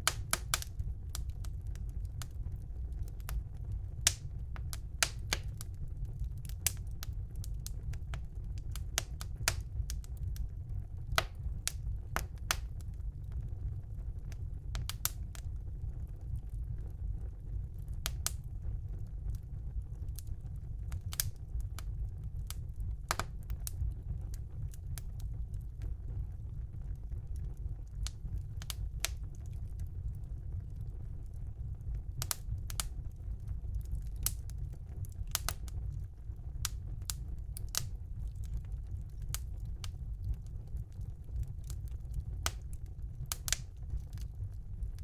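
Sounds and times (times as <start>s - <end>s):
low rumble of flames: 0.0s - 45.0s
wood fire crackling and popping: 0.0s - 45.0s.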